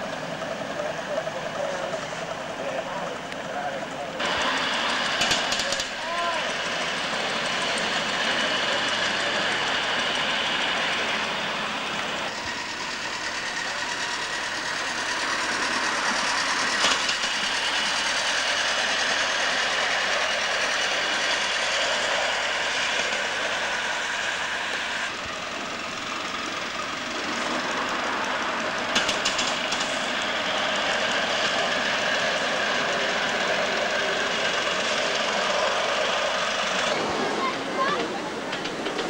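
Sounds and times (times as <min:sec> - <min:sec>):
miniature locomotives running: 0:00.0 - 0:39.0.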